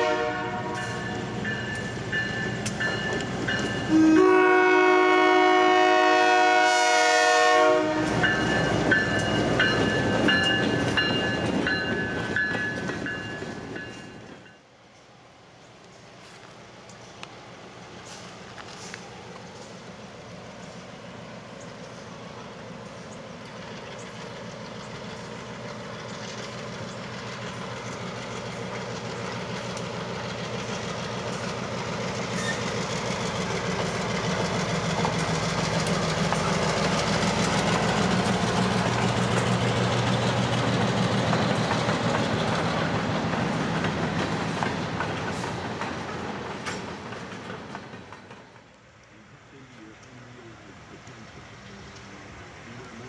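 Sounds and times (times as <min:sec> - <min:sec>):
diesel locomotive engine hum: 0:00.0 - 0:53.0
wheels clicking over rail joints: 0:08.0 - 0:53.0.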